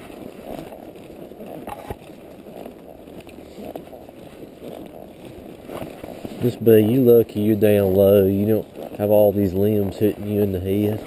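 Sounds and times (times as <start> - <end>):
branches and leaves rustling: 0.0 - 11.0
horse hoof steps: 0.0 - 11.0.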